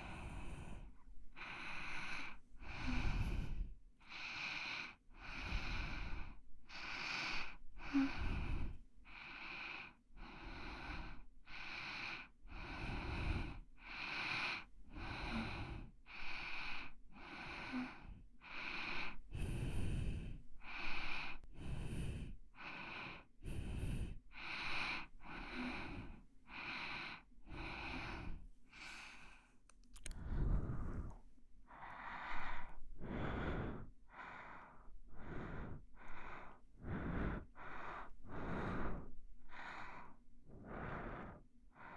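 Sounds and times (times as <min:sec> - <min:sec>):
person breathing in and out: 0:00.0 - 0:41.9.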